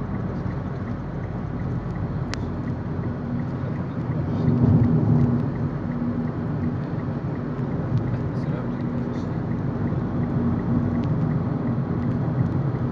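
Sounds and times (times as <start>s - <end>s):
car cabin road rumble: 0.0s - 12.9s.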